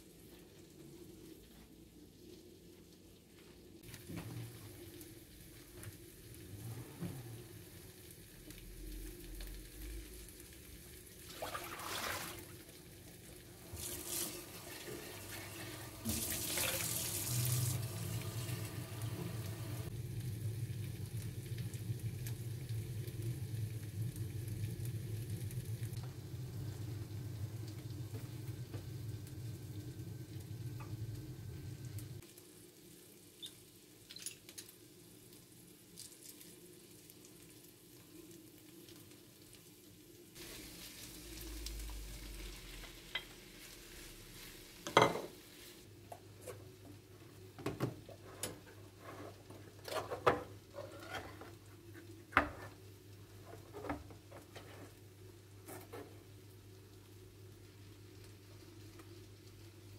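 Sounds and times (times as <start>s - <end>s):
meat sizzling in a frying pan: 7.4s - 54.2s, 55.1s - 59.9s.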